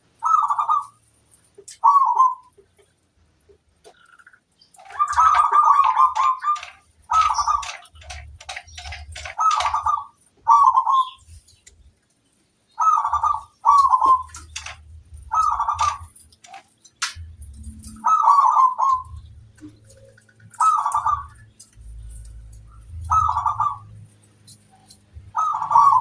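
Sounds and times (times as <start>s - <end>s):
dove cooing with trill: 0.2s - 1.0s, 1.6s - 2.9s, 4.8s - 11.4s, 12.8s - 16.7s, 17.5s - 26.0s.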